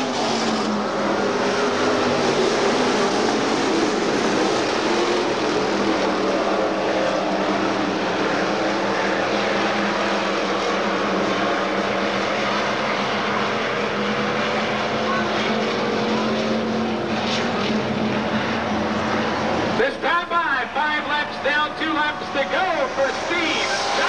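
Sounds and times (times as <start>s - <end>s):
racing car engines droning: 0.0s - 24.0s.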